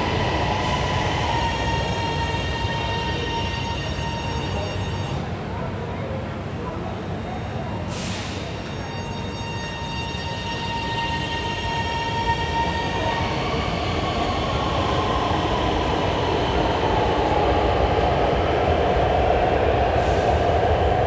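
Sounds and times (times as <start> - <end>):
train rushing rolling noise: 0.0 - 5.2, 8.1 - 21.0.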